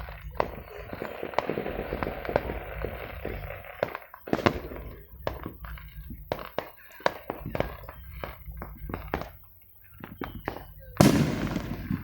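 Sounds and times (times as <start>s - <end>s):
fireworks popping and banging: 0.0s - 12.0s.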